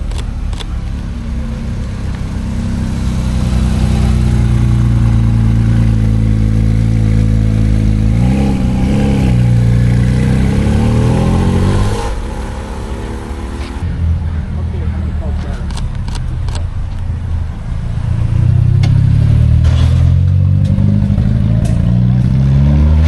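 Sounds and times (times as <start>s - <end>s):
car engine and exhaust: 0.0s - 23.0s.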